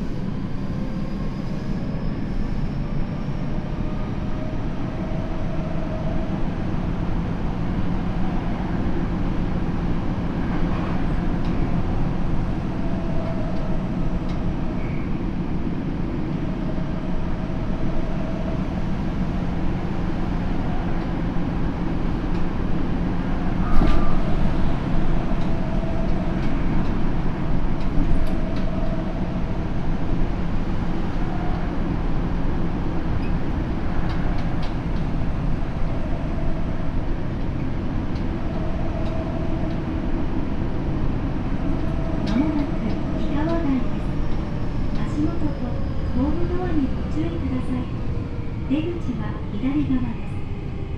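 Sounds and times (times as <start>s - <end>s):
wheels rumbling on rail: 0.0s - 50.9s.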